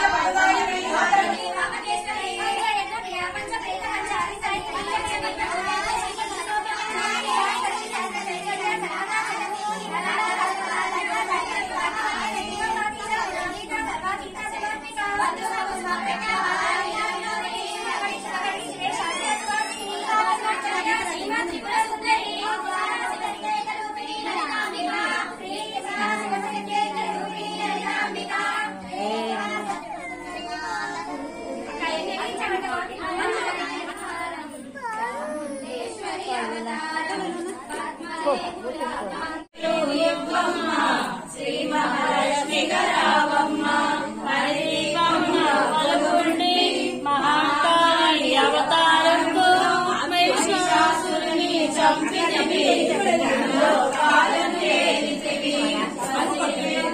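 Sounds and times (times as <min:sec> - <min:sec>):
women and children singing: 0:00.0 - 0:56.9.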